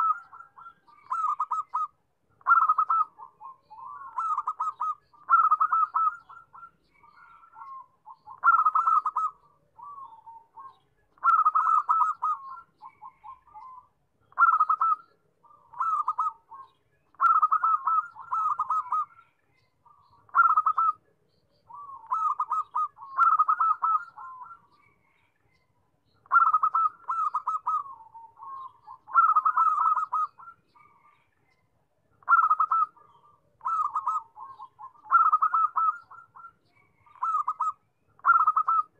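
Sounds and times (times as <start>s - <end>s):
dove cooing: 0.0s - 19.2s, 19.8s - 21.0s, 21.7s - 24.9s, 26.2s - 31.2s, 32.2s - 38.9s.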